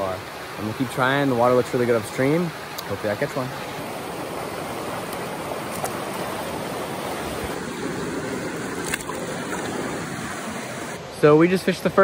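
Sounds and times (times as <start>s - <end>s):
river water rushing and gurgling: 0.0s - 12.0s.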